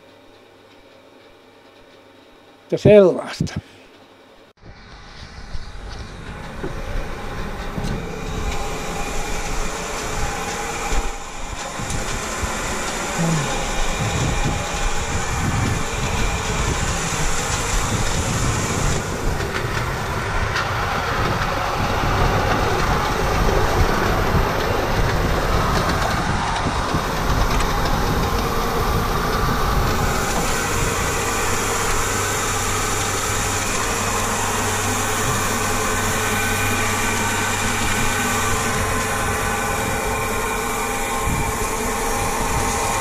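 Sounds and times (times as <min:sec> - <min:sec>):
tractor diesel engine running: 0:04.8 - 0:43.0.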